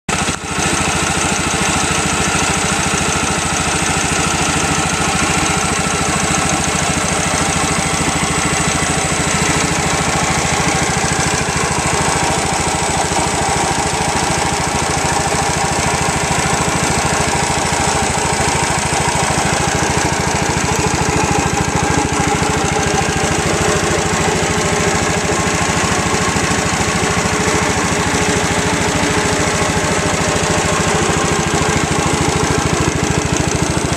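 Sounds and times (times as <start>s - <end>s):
two-cylinder engine running: 0.1s - 33.9s.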